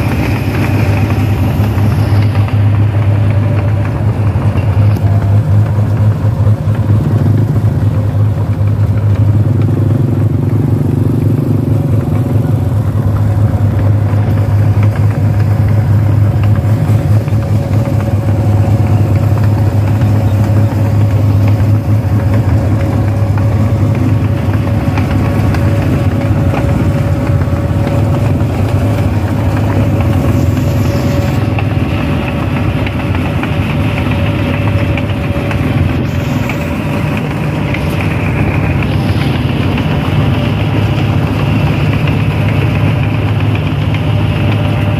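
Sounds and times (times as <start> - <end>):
diesel engine drone: 0.0 - 44.9
steady whine: 0.0 - 44.9.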